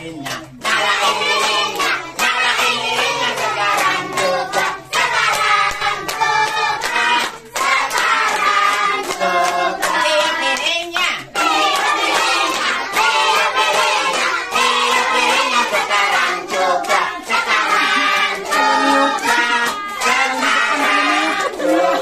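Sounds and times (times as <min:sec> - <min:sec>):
hands clapping in time: 0:00.0 - 0:22.0
party song singing with music: 0:00.0 - 0:22.0.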